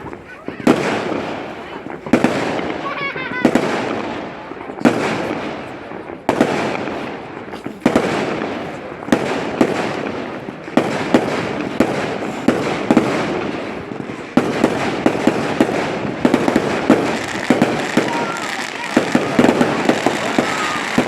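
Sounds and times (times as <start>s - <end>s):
fireworks bangs with echo: 0.0s - 21.0s.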